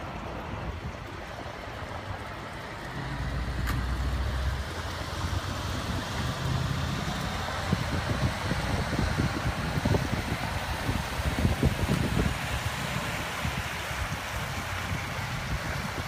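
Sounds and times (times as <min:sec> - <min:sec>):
diesel truck engine drone: 0:00.0 - 0:16.0
trailer wheels rumbling on road: 0:00.0 - 0:16.0.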